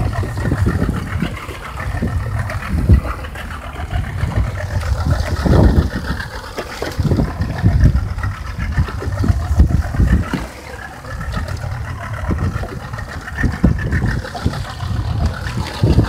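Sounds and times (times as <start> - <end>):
outboard motor idling: 0.0 - 16.0
wind buffeting the microphone: 0.0 - 16.0.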